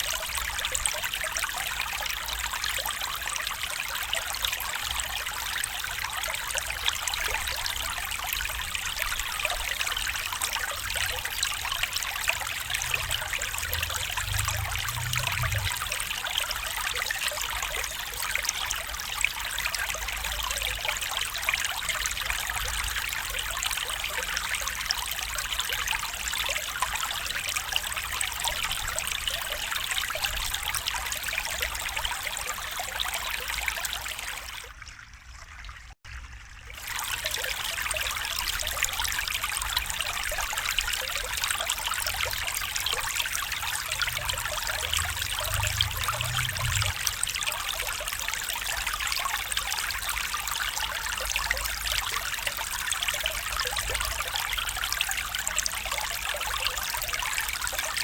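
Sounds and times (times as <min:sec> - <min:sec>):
stream babbling: 0:00.0 - 0:34.8, 0:36.7 - 0:58.0.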